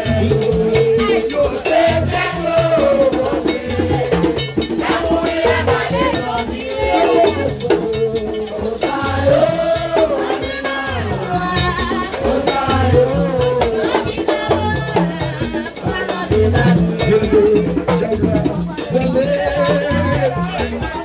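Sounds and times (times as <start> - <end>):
crowd singing: 0.0 - 21.0
steady drum rhythm: 0.0 - 21.0.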